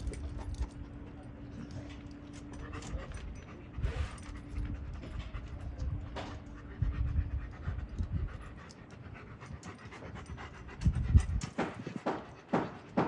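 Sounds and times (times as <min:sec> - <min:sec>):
dog panting: 0:01.7 - 0:13.0.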